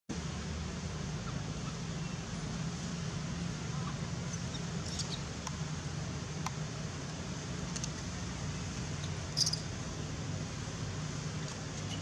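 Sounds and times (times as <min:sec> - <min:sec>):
traffic hum: 0:00.1 - 0:12.0.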